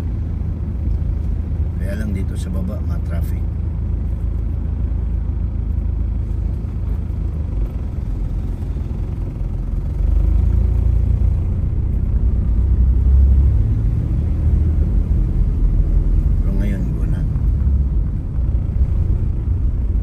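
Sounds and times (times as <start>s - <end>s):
car engine rumble: 0.0s - 20.0s.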